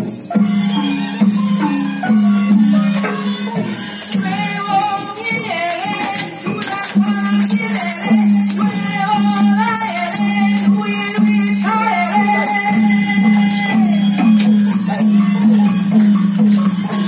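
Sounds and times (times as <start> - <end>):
wavering melody: 0.0 - 17.0.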